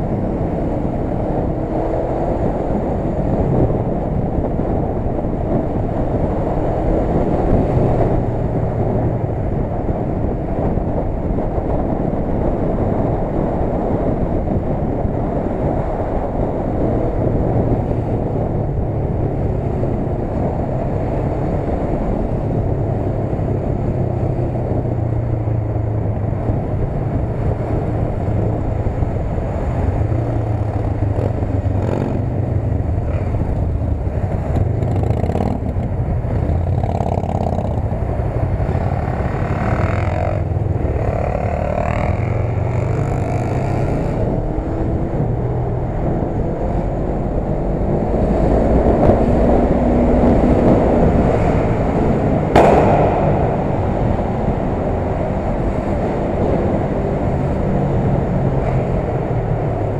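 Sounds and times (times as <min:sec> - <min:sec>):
motorcycle engine hum: 0:00.0 - 0:59.9
wind rushing on microphone: 0:00.0 - 0:59.9.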